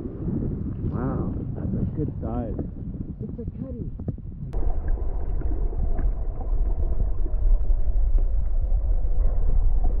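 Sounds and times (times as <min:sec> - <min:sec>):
faint water gurgle: 0:00.0 - 0:10.0
muffled underwater stream rumble: 0:00.0 - 0:10.0.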